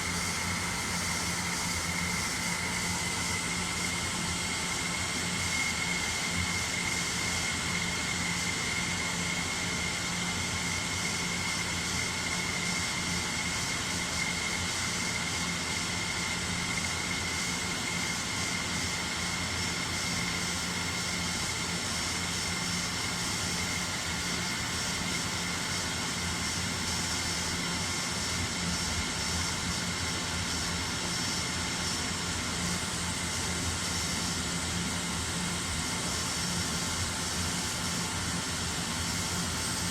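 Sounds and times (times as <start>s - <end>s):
machine hiss and whine: 0.0s - 39.9s.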